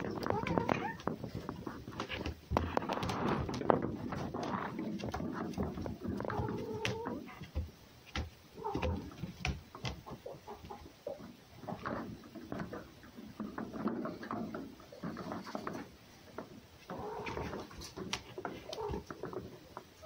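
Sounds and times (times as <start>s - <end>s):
paws scuffling on wooden boards: 0.0s - 20.0s.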